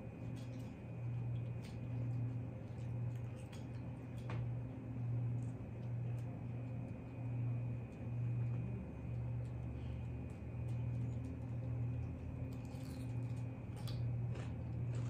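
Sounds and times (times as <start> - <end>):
low pulsing hum: 0.0 - 15.0.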